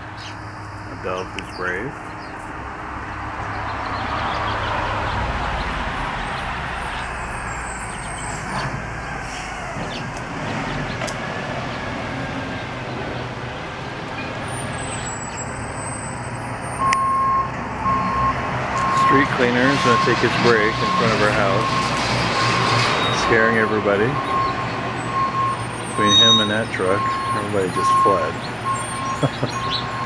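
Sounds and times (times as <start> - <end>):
heavy engine drone: 0.0 - 30.0.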